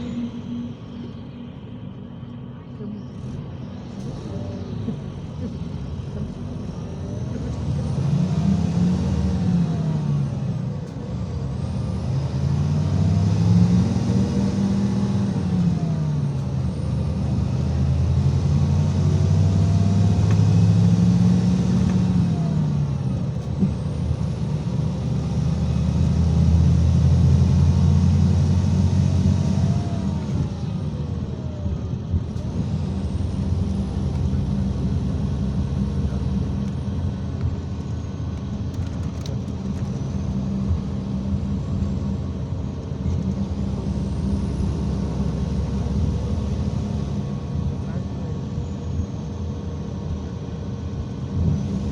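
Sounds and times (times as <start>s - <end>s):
bus diesel engine: 0.0s - 51.9s
road noise: 0.0s - 51.9s.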